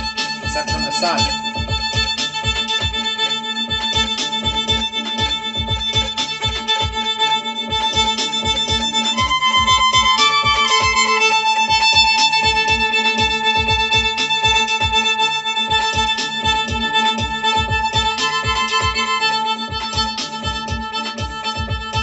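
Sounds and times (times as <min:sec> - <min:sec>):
bowed string melody: 0:00.0 - 0:22.0
drum beating steady pulse: 0:00.0 - 0:22.0.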